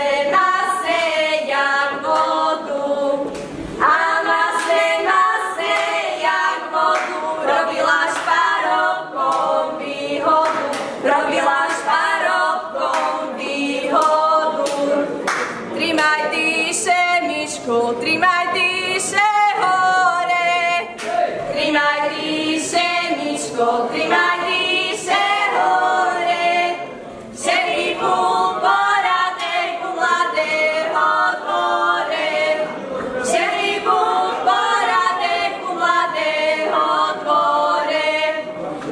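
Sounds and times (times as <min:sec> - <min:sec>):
women singing a cappella: 0:00.0 - 0:38.9.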